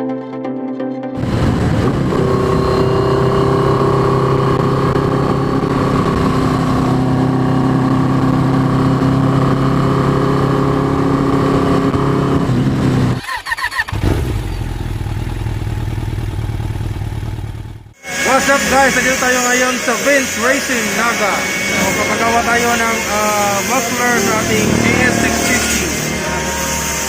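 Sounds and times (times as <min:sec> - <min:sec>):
motorcycle engine running: 0:01.2 - 0:18.0, 0:19.9 - 0:27.0.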